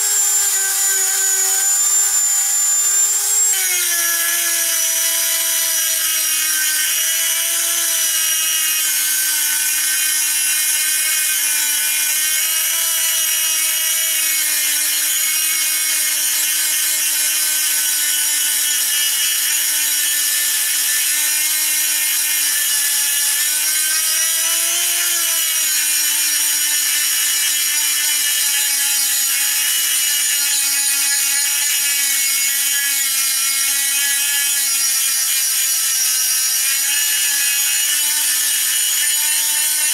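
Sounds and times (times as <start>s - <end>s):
rotary tool motor whine: 0.0s - 39.9s
stone grinding steel blade: 0.0s - 39.9s.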